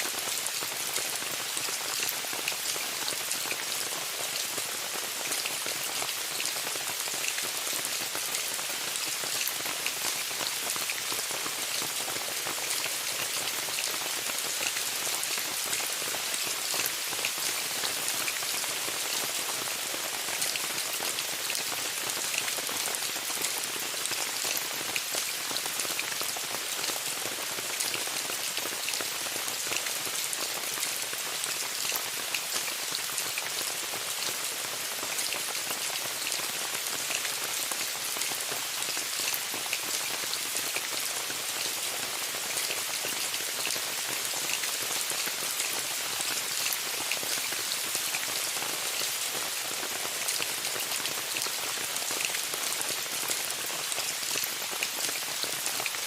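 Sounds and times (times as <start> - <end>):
rain on a tent: 0.0 - 56.0.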